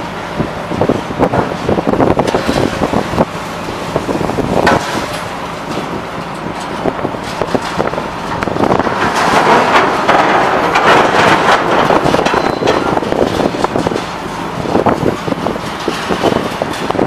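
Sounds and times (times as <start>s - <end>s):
heavy machinery noise: 0.0s - 17.0s
scrap metal clanks and crunches: 0.7s - 17.0s.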